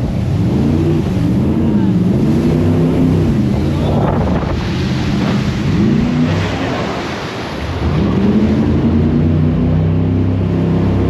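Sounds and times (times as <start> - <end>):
wind on microphone: 0.0 - 9.9
boat engine: 0.0 - 11.0
rushing water: 0.0 - 11.0.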